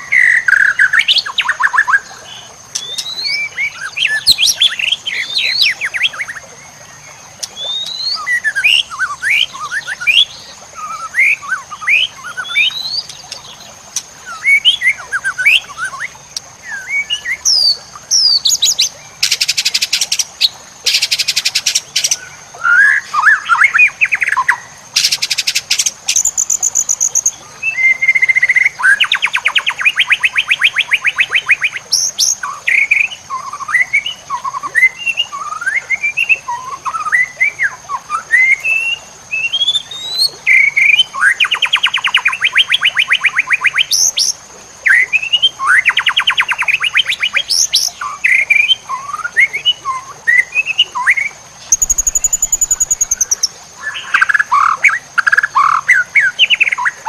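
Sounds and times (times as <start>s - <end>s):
bird singing whistles and trills: 0.0s - 6.5s, 7.4s - 13.6s, 14.2s - 57.0s.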